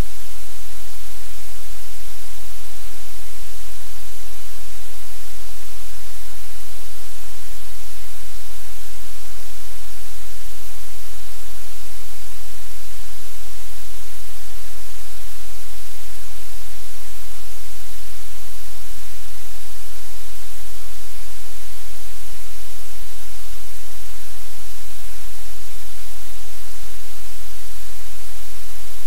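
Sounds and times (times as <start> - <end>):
static hiss: 0.0 - 29.0.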